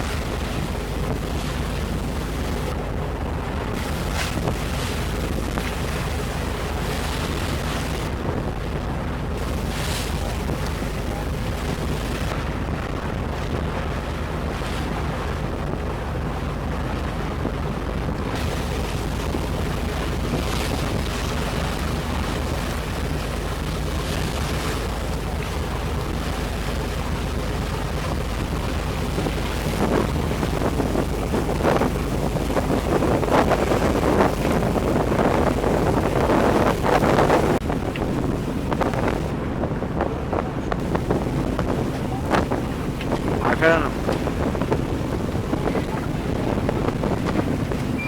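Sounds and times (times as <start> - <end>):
boat engine droning: 0.0 - 48.0
water rushing past hull: 0.0 - 48.0
wind buffeting microphone: 0.0 - 48.0.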